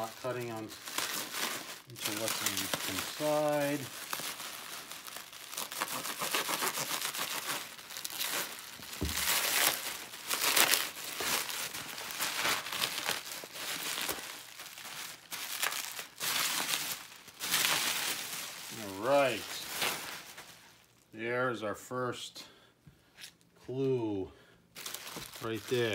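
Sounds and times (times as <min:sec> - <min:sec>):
bubble wrap and tape crinkling: 0:00.0 - 0:21.1, 0:24.8 - 0:25.9.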